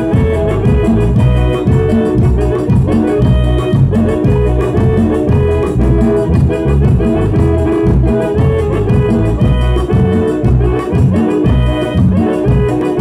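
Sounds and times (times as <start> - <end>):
bass and drums beat: 0.0 - 13.0
organ synthesizer chords: 0.0 - 13.0.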